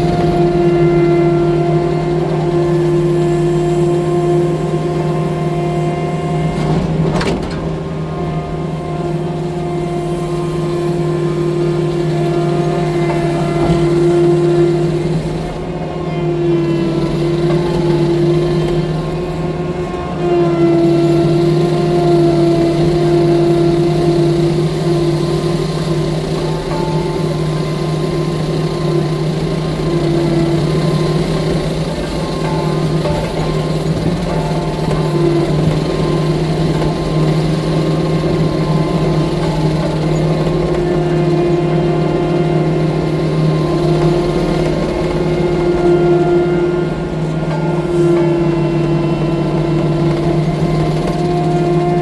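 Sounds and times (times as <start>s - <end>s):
track loader engine running: 0.0s - 52.0s.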